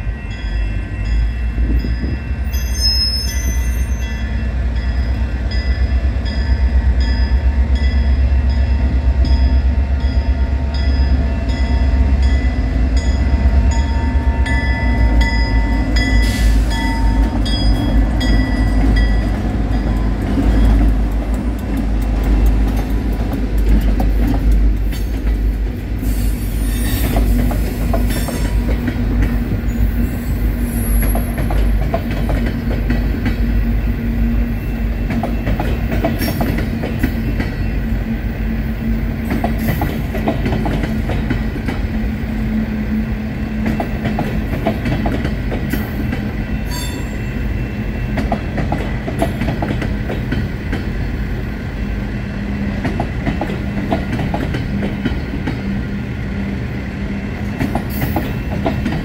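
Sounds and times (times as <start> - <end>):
freight train wheels rumbling: 0.0 - 59.0
locomotive rumble: 3.6 - 59.0.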